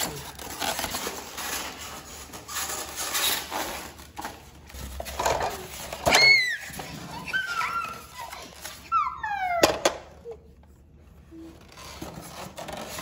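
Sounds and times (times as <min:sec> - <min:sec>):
cardboard and foam rustling: 0:00.0 - 0:09.2, 0:10.4 - 0:13.0.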